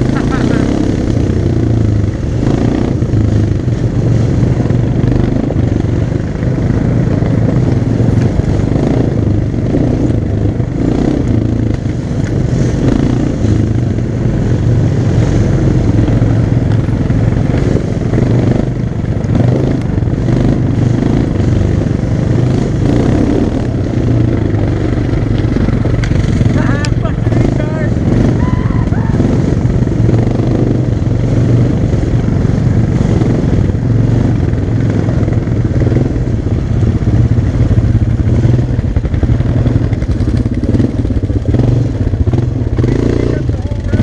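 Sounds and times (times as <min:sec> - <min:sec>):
atv engine running: 0:00.0 - 0:44.0.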